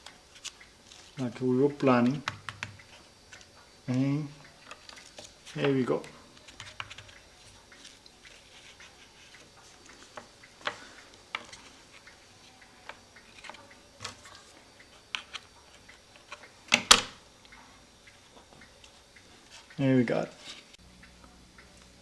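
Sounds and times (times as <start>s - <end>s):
paper and wood clicks: 0.0s - 20.8s.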